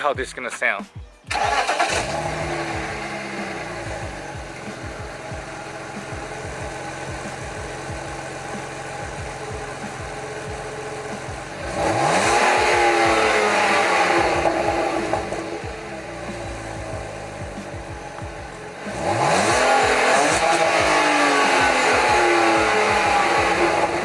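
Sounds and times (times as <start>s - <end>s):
car engine idling and revving: 1.3s - 24.0s.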